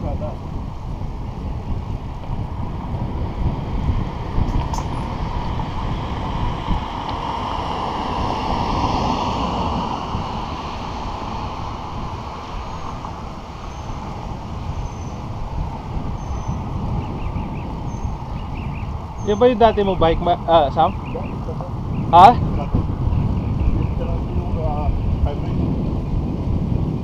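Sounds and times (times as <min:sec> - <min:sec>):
bicycle tyre and road noise: 0:00.0 - 0:27.0
wind rushing over microphone: 0:00.0 - 0:27.0.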